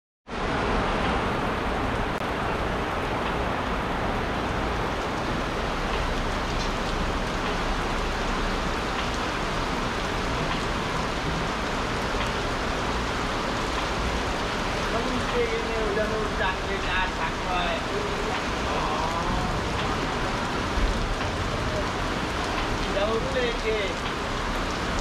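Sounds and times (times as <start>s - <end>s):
heavy rain on pavement: 0.3s - 25.0s
rain drop ticks: 2.2s - 25.0s.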